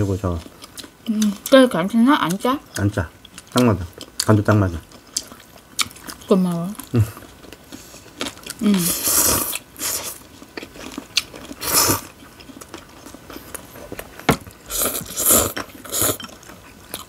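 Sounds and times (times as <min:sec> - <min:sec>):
chewing: 0:00.2 - 0:01.6, 0:02.2 - 0:17.0.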